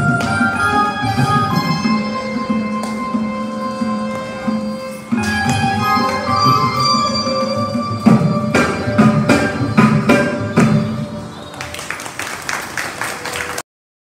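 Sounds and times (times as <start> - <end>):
keyboard and violin ensemble music: 0.0 - 11.8
loud percussive strokes: 0.0 - 12.8.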